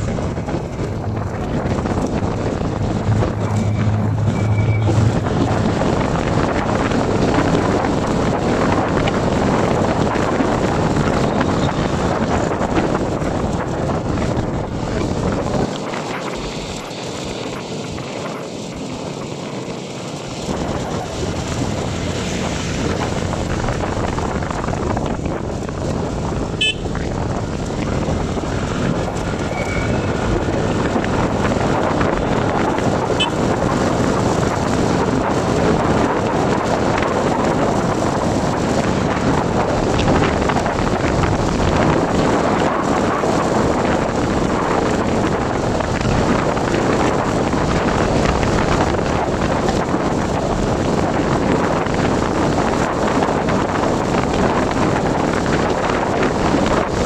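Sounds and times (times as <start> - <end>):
road and traffic noise: 0.0 - 57.0
wind rushing over microphone: 0.0 - 57.0.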